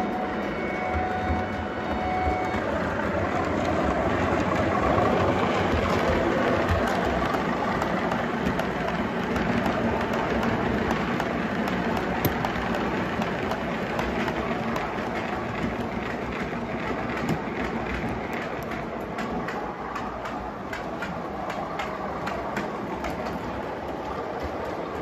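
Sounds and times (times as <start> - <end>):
model train wheels rumbling: 0.0 - 25.0
wheels clicking over rail joints: 0.0 - 25.0.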